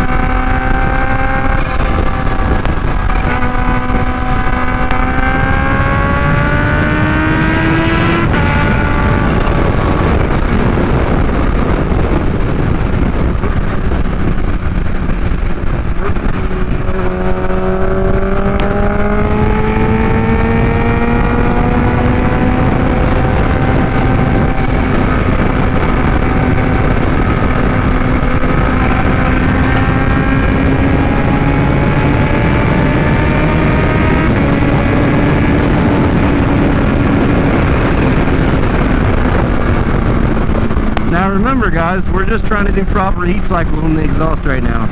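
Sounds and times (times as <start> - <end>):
motorcycle engine revving high: 0.0 - 44.9
wind rushing: 0.0 - 44.9.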